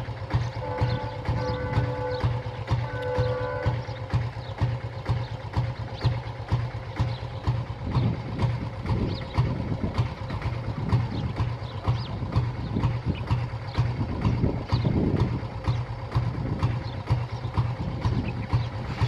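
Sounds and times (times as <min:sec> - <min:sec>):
clicking clatter of wheels: 0:00.0 - 0:19.0
train engine rumble: 0:00.0 - 0:19.0.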